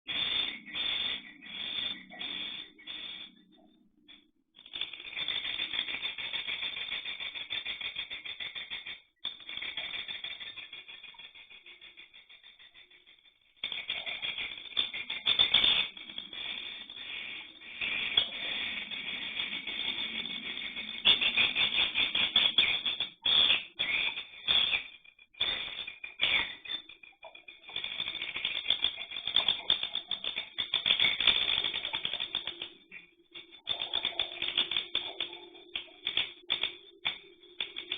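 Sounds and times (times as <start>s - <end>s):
chicks rattling chirps: 0.1s - 3.6s, 4.6s - 37.9s.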